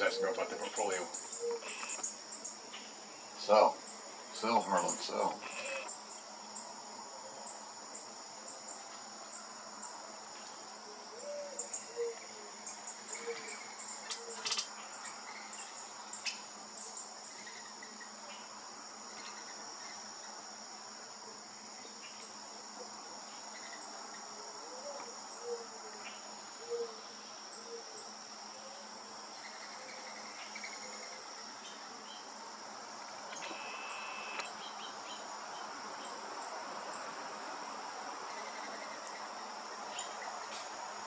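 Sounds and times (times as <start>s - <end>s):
crickets trilling: 0.0s - 41.0s.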